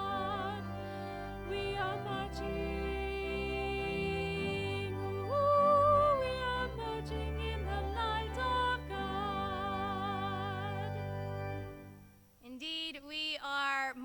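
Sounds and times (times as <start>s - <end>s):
person singing a hymn: 0.0s - 11.7s
sustained low accompaniment: 0.0s - 12.0s.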